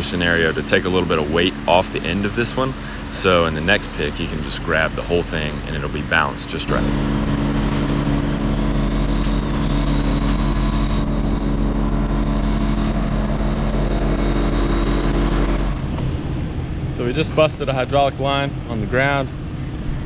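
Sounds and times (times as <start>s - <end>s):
large machinery engine running: 0.0s - 16.4s
faint high whine: 0.0s - 17.7s.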